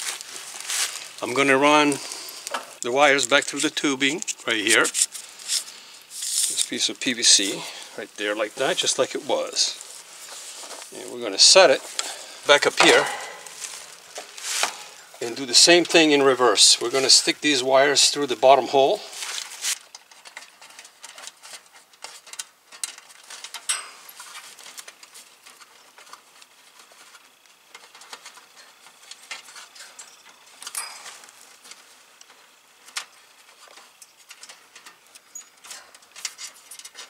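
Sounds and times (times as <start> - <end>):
hands rustling and scraping wires: 0.0 - 37.0.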